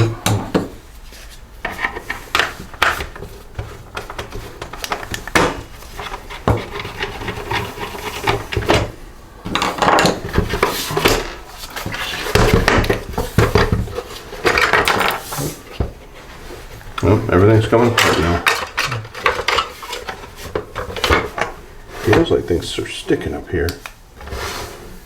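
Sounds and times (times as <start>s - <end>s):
plastic parts clicking and scraping: 1.6s - 22.4s.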